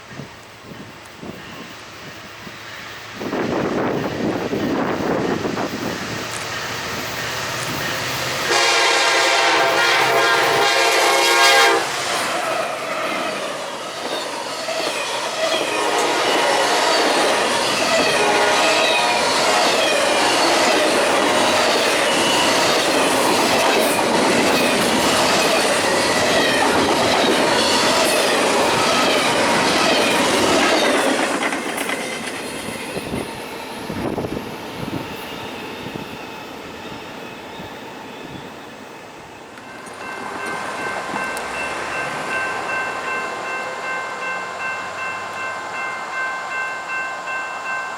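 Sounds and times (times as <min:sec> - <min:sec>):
train wheels clacking: 0:01.0 - 0:38.6, 0:39.5 - 0:47.0.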